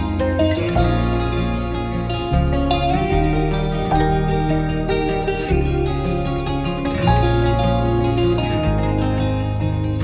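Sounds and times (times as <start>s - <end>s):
plucked-string notes: 0.0s - 10.0s
steady bass line: 0.0s - 10.0s.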